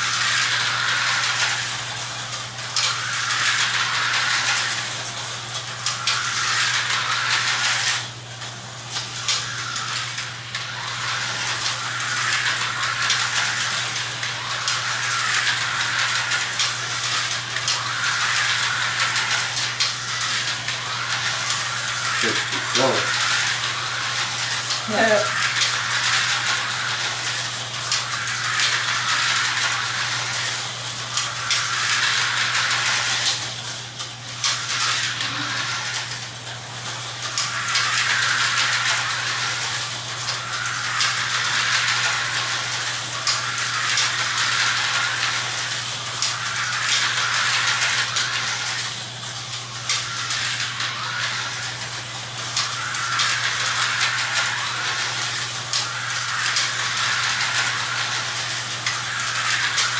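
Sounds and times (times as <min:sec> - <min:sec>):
slot car motors whirring: 0:00.0 - 0:59.9.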